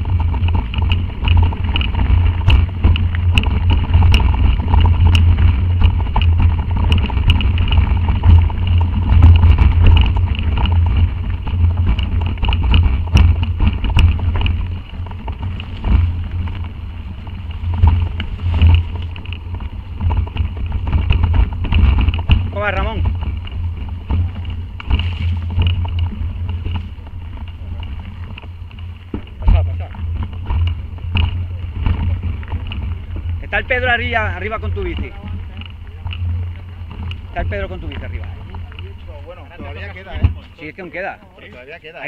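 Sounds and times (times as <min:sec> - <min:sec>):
wind on microphone: 0:00.0 - 0:40.9
bike rattling and knocking: 0:00.0 - 0:42.0.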